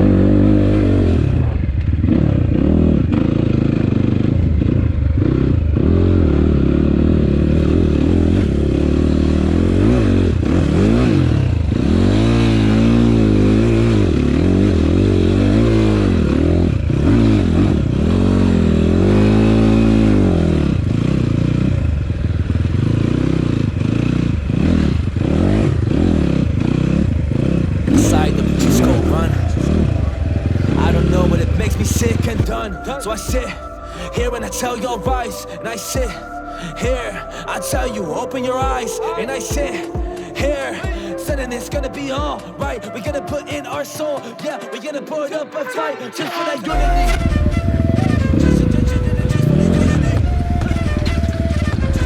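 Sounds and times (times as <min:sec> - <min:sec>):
dirt bike engine revving: 0:00.0 - 0:43.4, 0:46.6 - 0:52.0.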